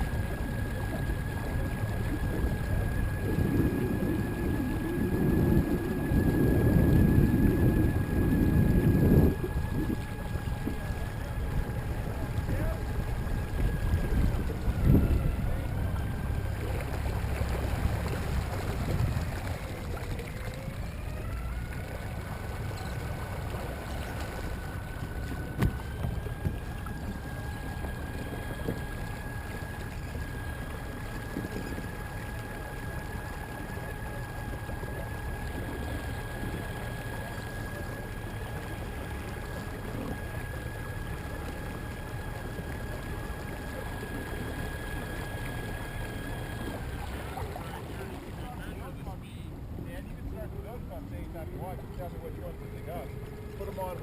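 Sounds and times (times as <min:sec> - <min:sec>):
electric outboard motor whine: 0:00.0 - 0:54.0
water rushing along hull: 0:00.0 - 0:54.0.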